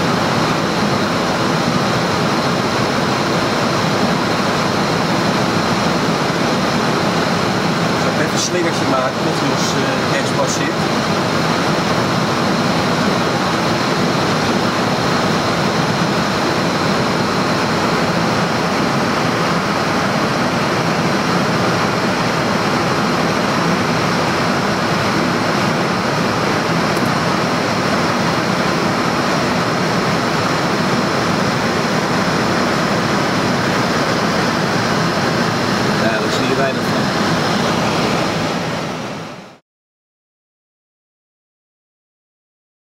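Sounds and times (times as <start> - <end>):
rushing air and ventilation: 0.0 - 39.6.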